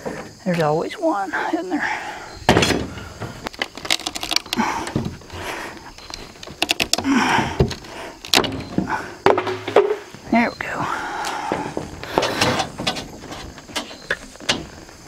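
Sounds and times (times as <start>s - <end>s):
wood scraping and creaking: 1.8s - 15.0s.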